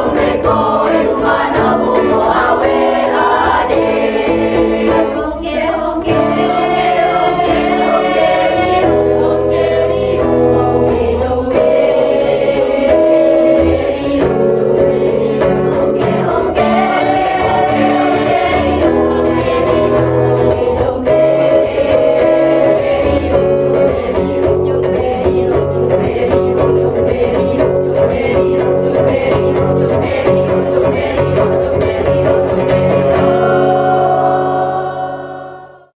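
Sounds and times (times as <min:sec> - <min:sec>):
choir singing: 0:00.0 - 0:35.9.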